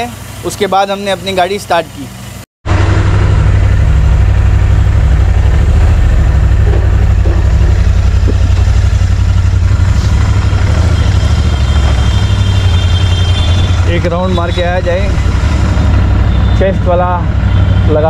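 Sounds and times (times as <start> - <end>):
motorcycle engine idling: 2.7 - 18.0.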